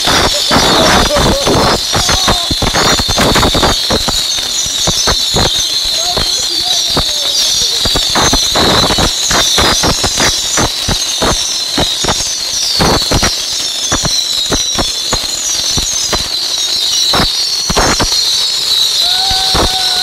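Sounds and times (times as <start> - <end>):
firework pops and cracks: 0.0 - 20.0
rockets whistling: 0.0 - 20.0.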